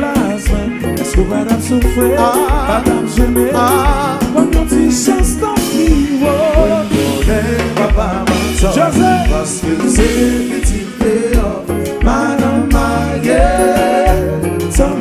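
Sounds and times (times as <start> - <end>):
drum kit with cymbals: 0.0 - 15.0
person singing: 0.0 - 15.0
pulsing bass line: 0.0 - 15.0.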